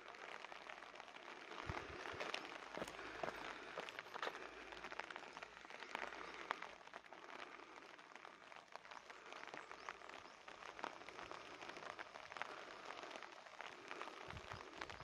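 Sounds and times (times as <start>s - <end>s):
light rain patter: 0.0s - 15.0s.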